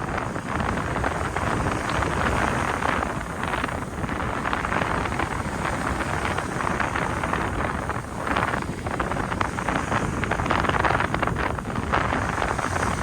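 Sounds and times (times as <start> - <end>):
strong wind gusting on microphone: 0.0 - 13.0.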